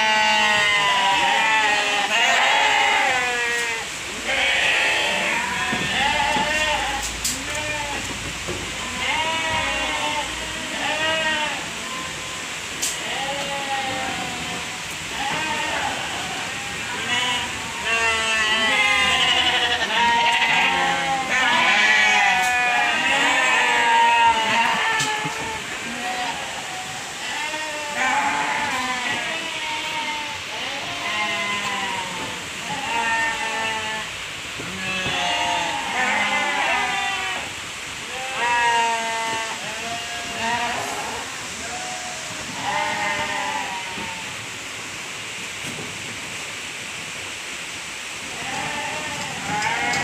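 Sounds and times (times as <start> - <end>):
sheep bleating: 0.0 - 8.1, 8.8 - 37.5, 38.1 - 44.3, 48.3 - 50.0.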